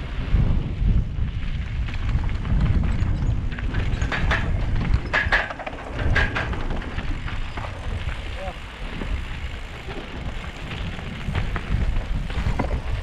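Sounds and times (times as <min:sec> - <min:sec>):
wind buffeting microphone: 0:00.0 - 0:13.0
bike rattling over bumps: 0:00.3 - 0:13.0.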